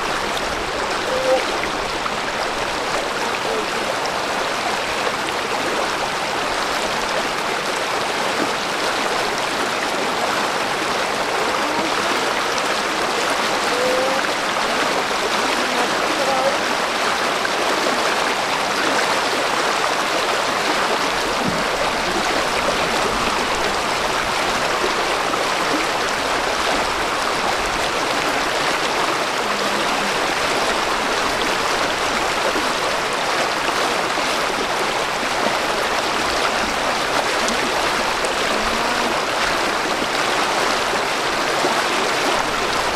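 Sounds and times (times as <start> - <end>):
river current rushing and splashing: 0.0 - 42.9.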